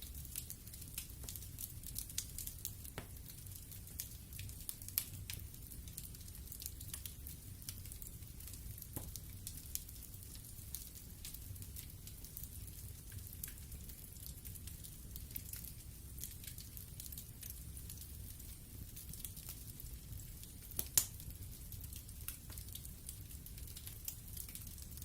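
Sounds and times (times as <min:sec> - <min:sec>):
wood fire crackling: 0:00.0 - 0:25.0
burning wood popping: 0:00.1 - 0:17.6, 0:20.4 - 0:24.8.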